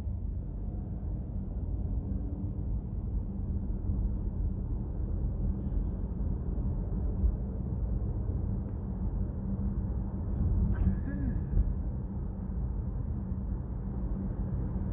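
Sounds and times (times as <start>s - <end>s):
road and engine rumble in car: 0.0s - 14.9s.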